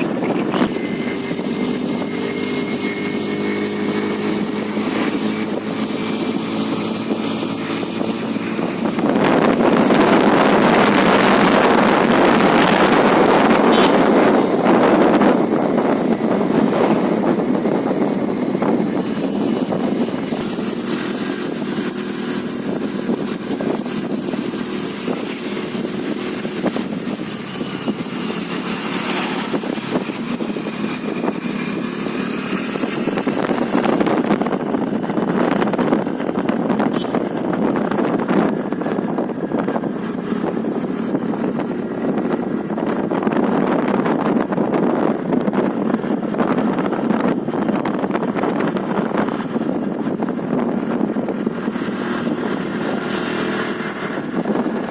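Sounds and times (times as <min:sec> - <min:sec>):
scooter engine running: 0:00.0 - 0:54.9
wind and road noise: 0:00.0 - 0:54.9.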